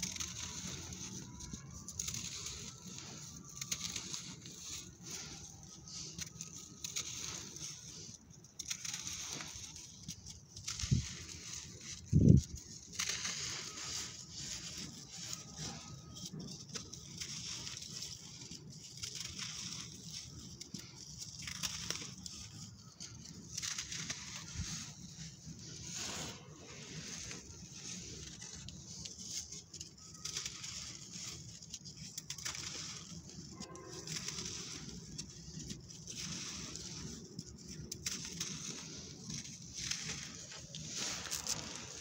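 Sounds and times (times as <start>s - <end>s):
clumps crumbling: 0.0s - 42.0s
sand pouring through fingers: 0.0s - 42.0s.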